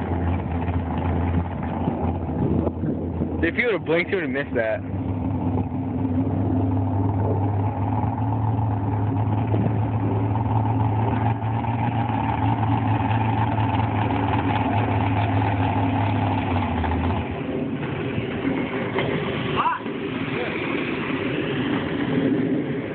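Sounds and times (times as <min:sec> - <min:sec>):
drag car engine idling: 0:00.0 - 0:22.9.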